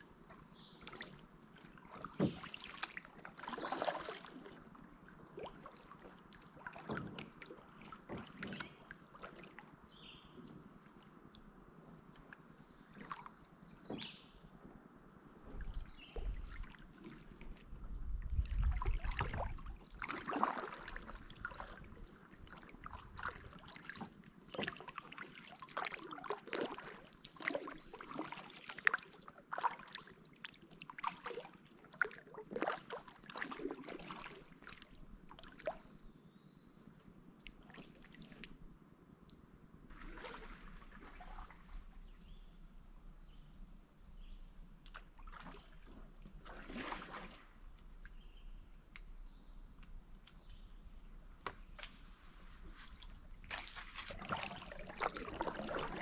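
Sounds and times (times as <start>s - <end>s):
water splashing around a kayak: 0.0s - 38.8s, 39.7s - 56.0s.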